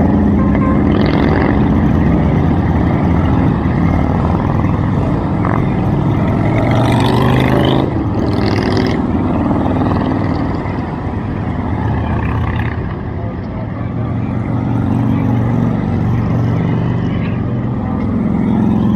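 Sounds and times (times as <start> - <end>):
motorcycle engines rumbling: 0.0 - 18.9.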